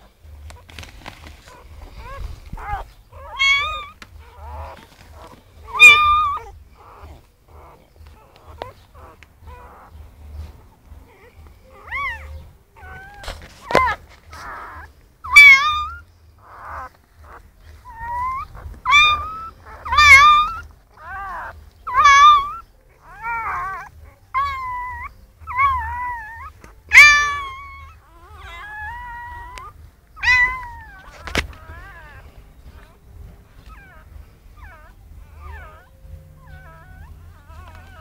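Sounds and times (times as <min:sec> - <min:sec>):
puppies squealing: 0:00.0 - 0:38.0.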